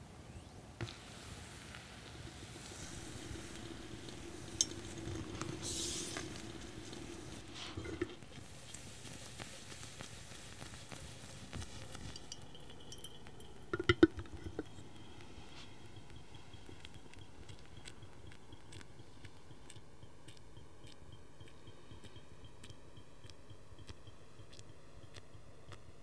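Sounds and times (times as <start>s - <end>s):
coffee dripping: 0.8s - 26.0s
dripper clinking on glass: 2.5s - 8.3s, 10.6s - 26.0s.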